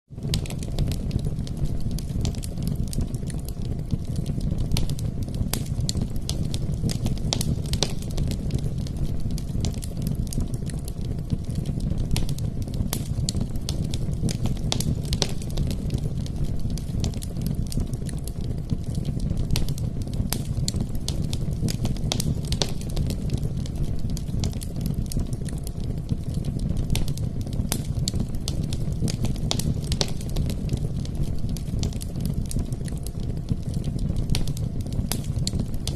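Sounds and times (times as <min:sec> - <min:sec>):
low rumble of flame: 0:00.1 - 0:35.9
logs crackling and popping: 0:00.2 - 0:35.9.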